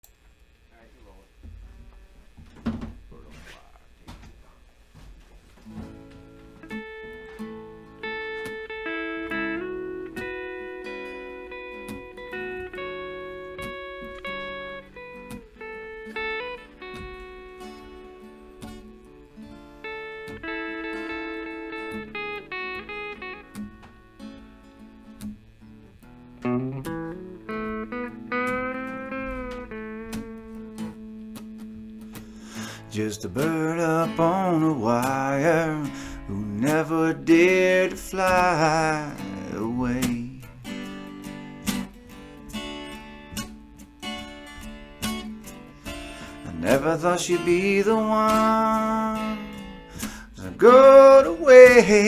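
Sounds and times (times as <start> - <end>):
guitar picking single notes: 5.5 - 52.0.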